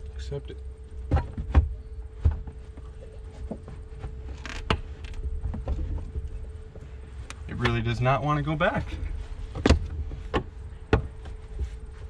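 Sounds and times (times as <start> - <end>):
carpeted panel rustle: 1.0 - 12.0.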